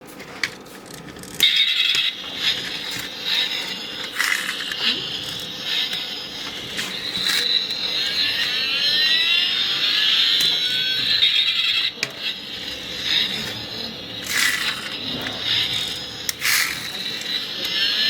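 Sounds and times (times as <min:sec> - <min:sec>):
metal toy car clicking: 0:00.4 - 0:08.5, 0:10.3 - 0:17.8
tinny toy sound effects: 0:01.4 - 0:18.0.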